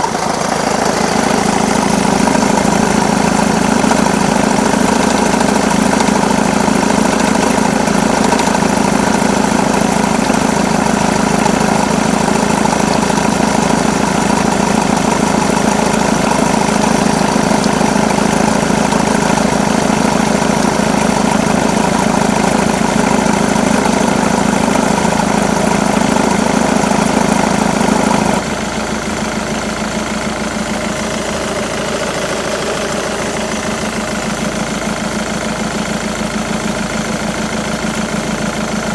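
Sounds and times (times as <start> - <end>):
auxiliary belt drive noise: 0.0 - 38.9
diesel engine idling: 0.0 - 38.9.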